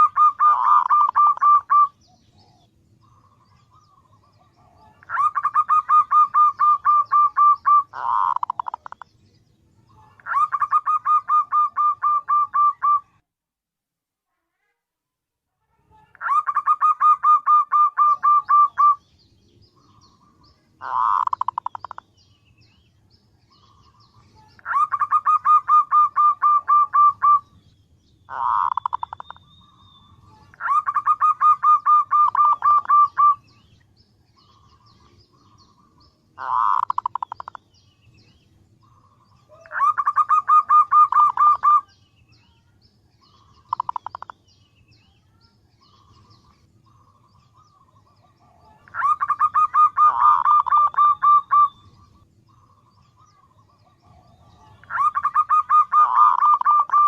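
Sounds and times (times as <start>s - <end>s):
dove calling in pulsed notes: 0.0s - 13.2s, 15.9s - 57.0s.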